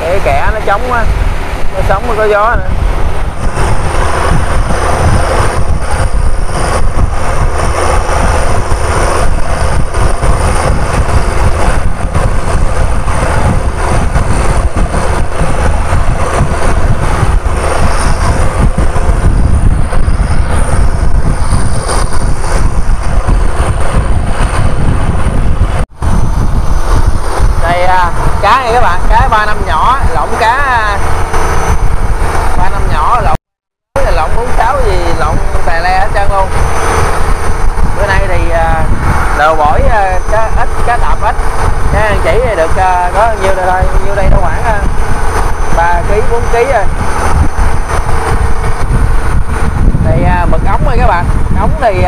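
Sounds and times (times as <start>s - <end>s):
boat engine running: 0.0s - 33.4s, 34.0s - 52.0s
wind buffeting microphone: 0.0s - 52.0s.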